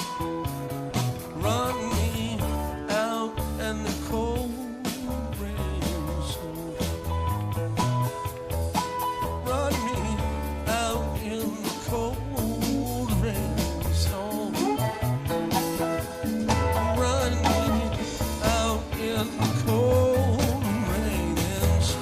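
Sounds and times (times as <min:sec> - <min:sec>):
lead guitar bending pitch: 0:00.0 - 0:22.0
live rock band playing: 0:00.0 - 0:22.0.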